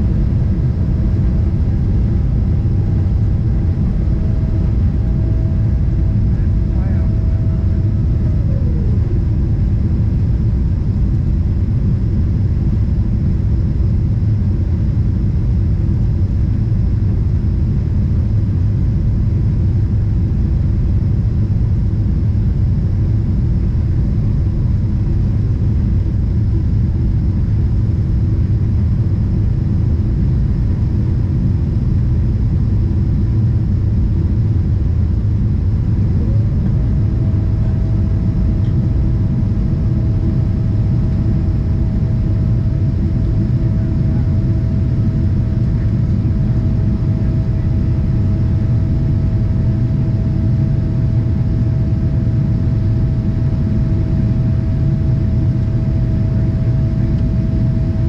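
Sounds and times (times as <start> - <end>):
aircraft cabin engine rumble: 0.0 - 58.0
mid-pitched whine: 0.0 - 58.0.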